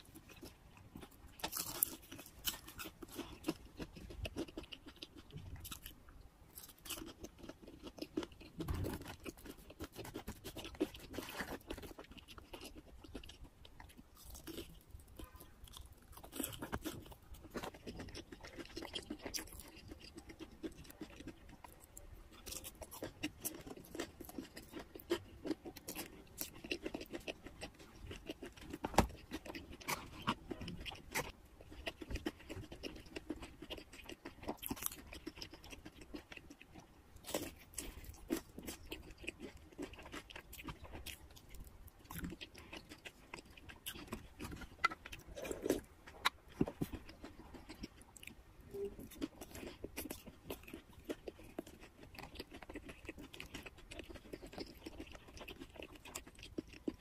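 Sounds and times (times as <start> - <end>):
chewing and crunching fried chicken: 0.0 - 57.0.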